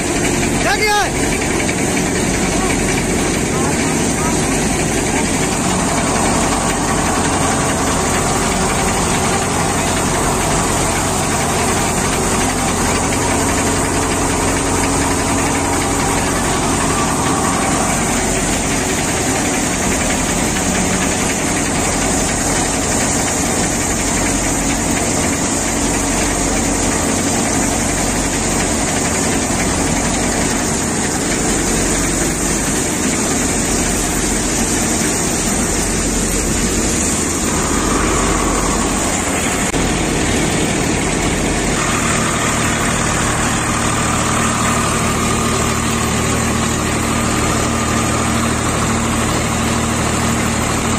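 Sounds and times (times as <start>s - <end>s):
low engine hum: 0.0s - 50.9s
thresher machine running: 0.0s - 50.9s.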